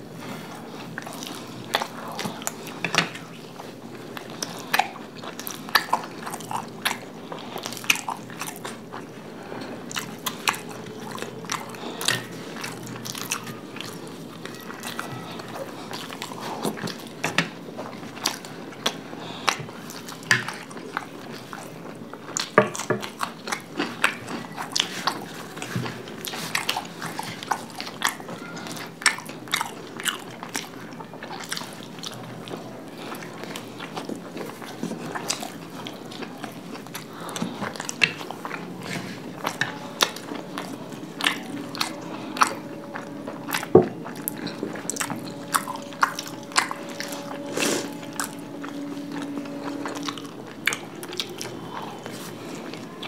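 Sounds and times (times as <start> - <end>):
people chewing food: 0.0 - 53.0.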